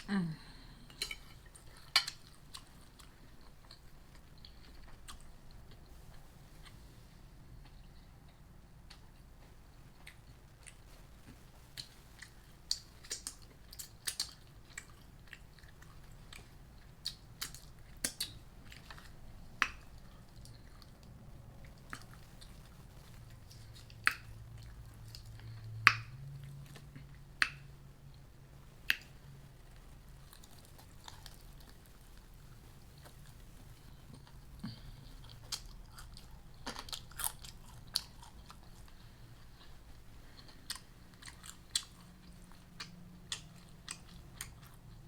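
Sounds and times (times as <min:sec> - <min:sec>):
person chewing with crunches: 0:00.0 - 0:45.0.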